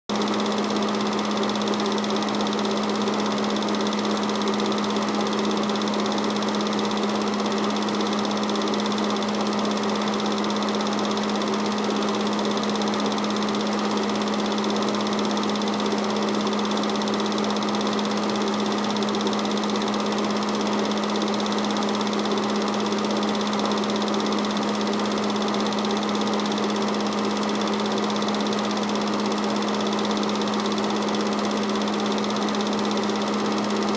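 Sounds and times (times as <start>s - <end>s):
film projector whirring: 0.1s - 33.9s.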